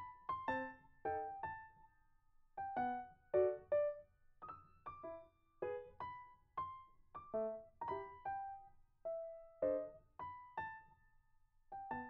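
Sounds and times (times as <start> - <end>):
slow piano melody: 0.0 - 1.9, 2.6 - 11.0, 11.8 - 12.0.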